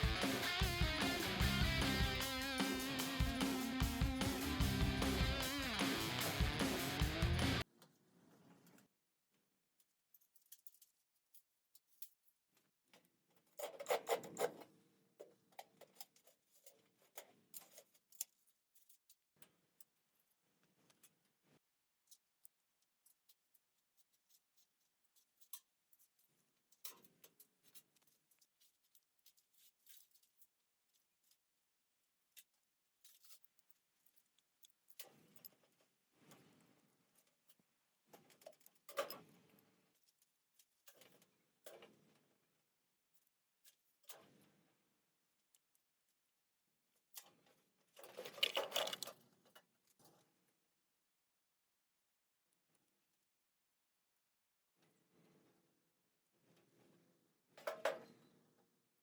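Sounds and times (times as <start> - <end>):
faint small clicks and scrapes: 7.7 - 51.3, 52.0 - 59.0.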